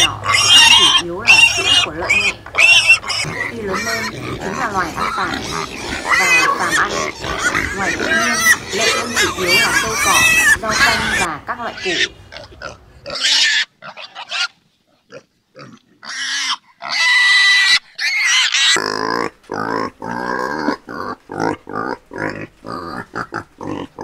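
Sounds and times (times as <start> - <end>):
pig grunting: 0.0 - 24.0
pigs squealing: 0.0 - 24.0.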